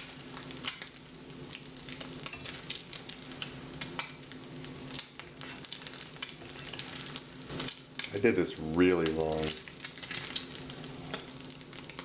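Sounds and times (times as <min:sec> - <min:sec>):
eggs sizzling in a pan: 0:00.0 - 0:12.0.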